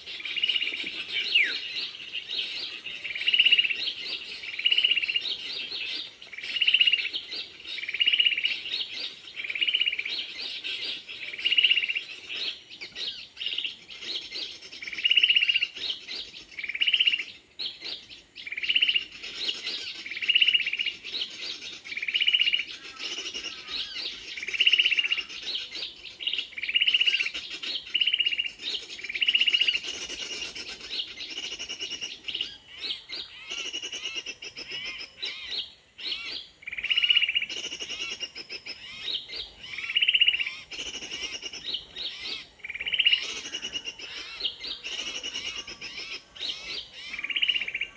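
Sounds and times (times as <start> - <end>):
birds chirping softly: 0.0 - 47.9.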